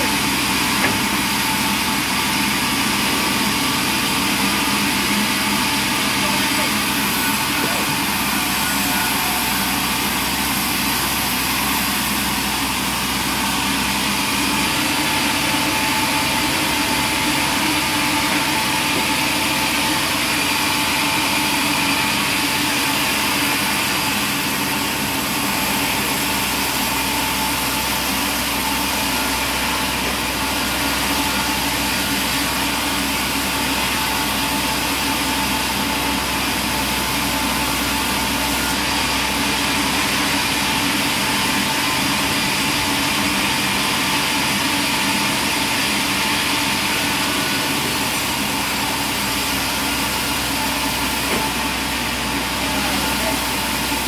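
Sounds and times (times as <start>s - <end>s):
band saw cutting timber: 0.0s - 54.0s.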